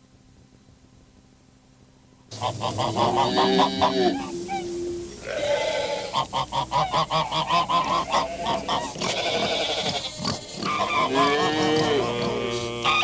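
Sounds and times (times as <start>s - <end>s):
quick repeated animal calls: 2.3s - 13.0s
rising and falling animal calls: 2.3s - 13.0s.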